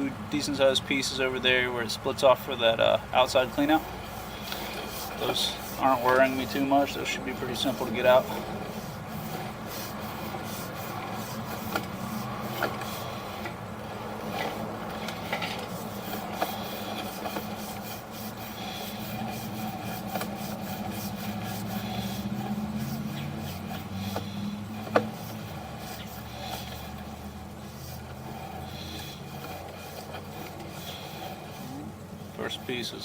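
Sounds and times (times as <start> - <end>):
cable rubbing and scraping in pipe: 3.2 - 33.0.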